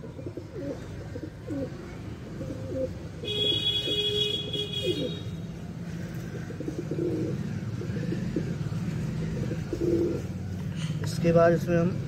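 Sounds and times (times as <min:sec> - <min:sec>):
pigeons cooing: 0:00.0 - 0:04.1, 0:04.7 - 0:10.6.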